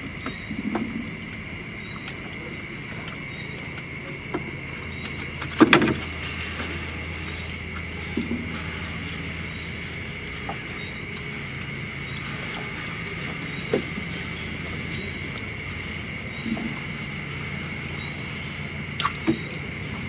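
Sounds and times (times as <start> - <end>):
low hum: 0.0 - 20.0
night insect chorus: 0.0 - 20.0.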